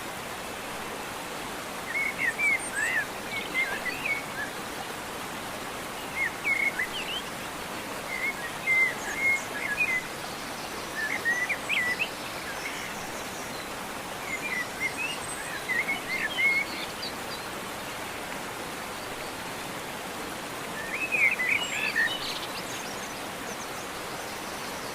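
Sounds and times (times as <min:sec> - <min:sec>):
songbirds chirping: 0:00.2 - 0:24.9.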